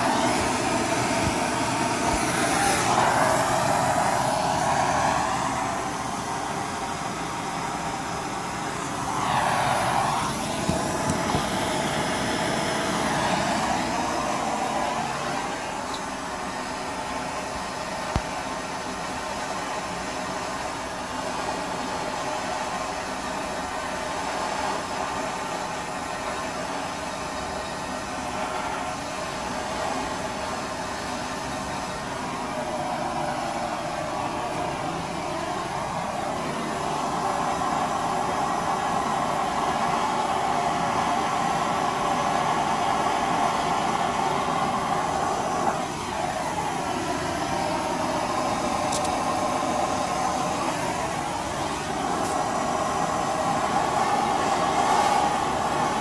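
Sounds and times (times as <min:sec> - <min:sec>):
blowtorch rushing hiss: 0:00.0 - 0:56.0.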